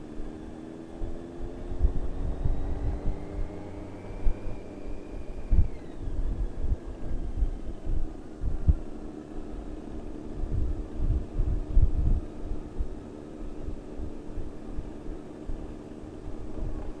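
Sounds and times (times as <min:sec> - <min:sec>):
motorcycle engine running: 0:00.0 - 0:17.0
wind buffeting microphone: 0:01.0 - 0:09.0, 0:09.7 - 0:17.0.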